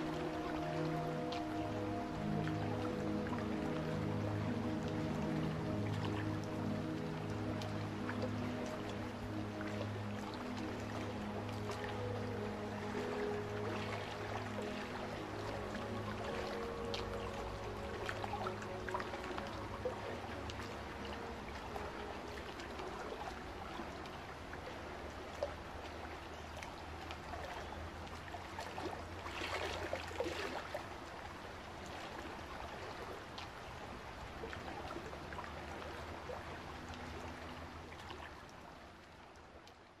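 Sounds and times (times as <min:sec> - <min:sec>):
water sloshing and trickling: 0:00.0 - 0:40.0.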